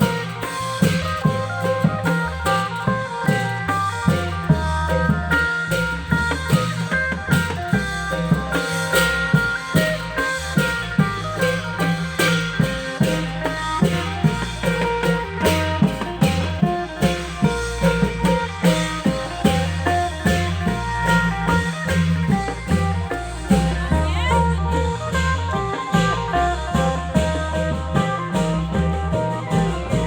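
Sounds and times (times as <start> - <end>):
bass notes: 0.0 - 30.0
drums beating: 0.0 - 30.0
plucked string melody: 0.0 - 30.0.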